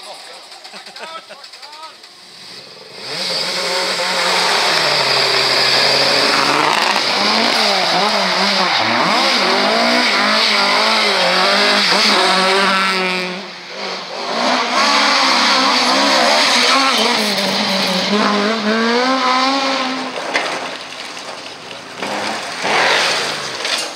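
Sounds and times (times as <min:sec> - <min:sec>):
rally car engines at full throttle: 0:00.0 - 0:23.9.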